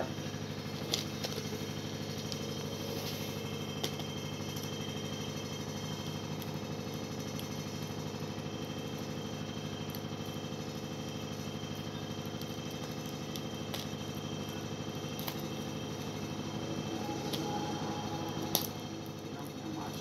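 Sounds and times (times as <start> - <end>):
machine-like hum: 0.0 - 20.0.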